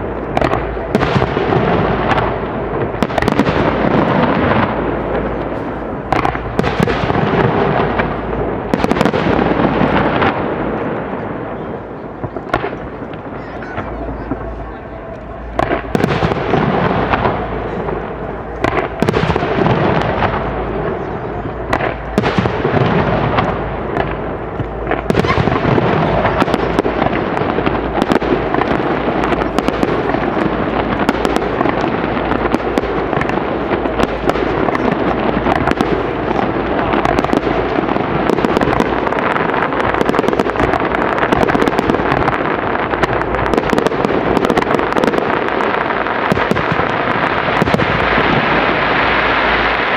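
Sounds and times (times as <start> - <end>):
fireworks bursting with crackling: 0.0 - 49.9.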